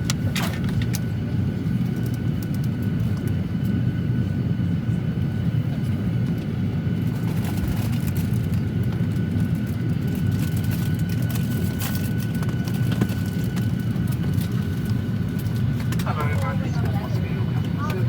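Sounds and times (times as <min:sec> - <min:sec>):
aircraft cabin air-conditioning rush: 0:00.0 - 0:18.0.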